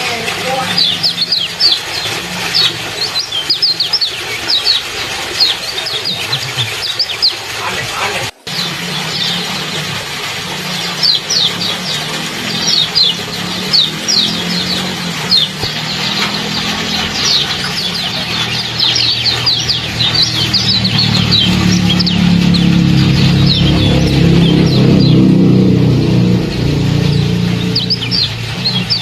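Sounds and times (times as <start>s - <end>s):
low hum: 0.0s - 6.8s, 8.2s - 29.0s
songbirds chirping: 0.0s - 29.0s
trickling water: 0.0s - 29.0s.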